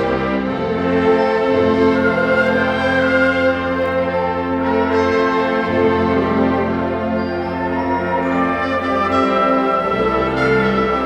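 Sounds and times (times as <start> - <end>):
wind ensemble playing chords: 0.0 - 11.0.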